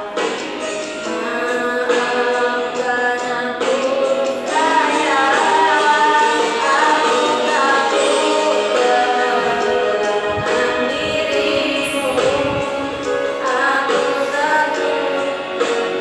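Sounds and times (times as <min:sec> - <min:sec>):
girl singing into a microphone: 0:01.0 - 0:16.0.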